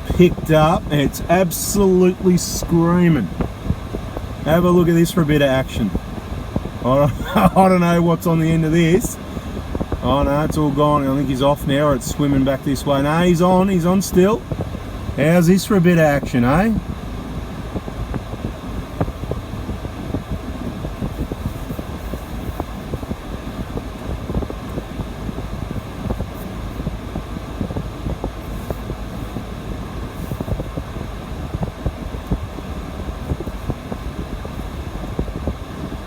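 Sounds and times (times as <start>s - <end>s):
wind buffeting microphone: 0.0s - 15.2s, 16.0s - 36.0s
vehicle engine running: 0.0s - 36.0s.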